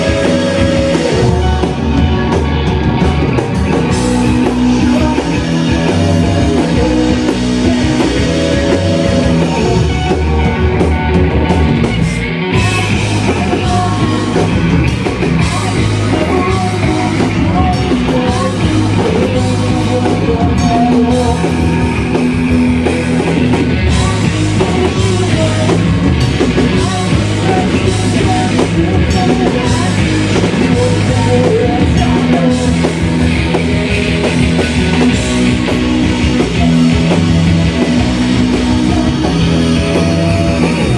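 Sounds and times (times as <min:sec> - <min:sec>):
bass: 0:00.0 - 0:40.9
buried vocals: 0:00.0 - 0:40.9
distorted guitars: 0:00.0 - 0:40.9
drum kit: 0:00.0 - 0:40.9.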